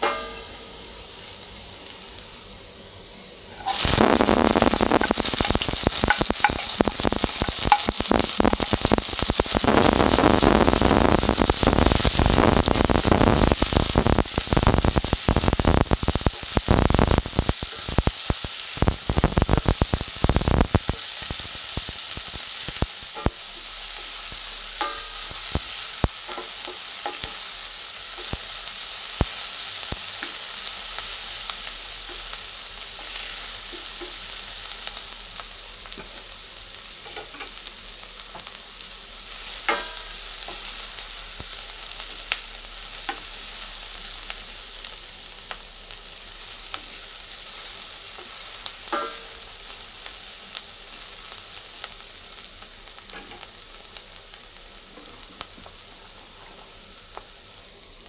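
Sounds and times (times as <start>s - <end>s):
onions sizzling in a pan: 0.0s - 58.0s.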